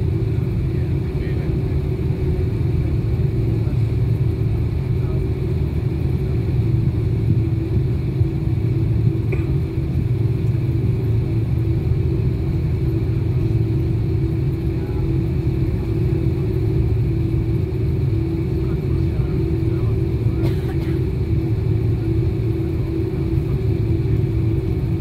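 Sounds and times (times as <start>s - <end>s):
jet engines idling in cabin: 0.0s - 25.0s.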